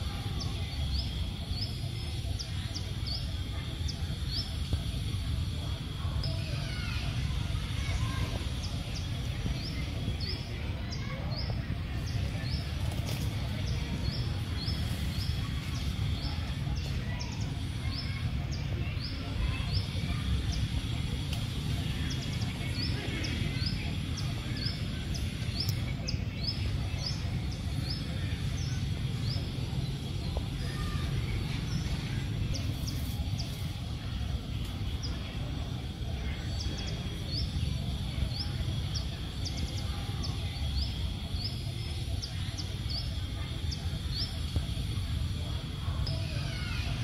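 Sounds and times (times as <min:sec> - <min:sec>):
low outdoor rumble: 0:00.0 - 0:47.0
small birds chirping: 0:00.0 - 0:47.0.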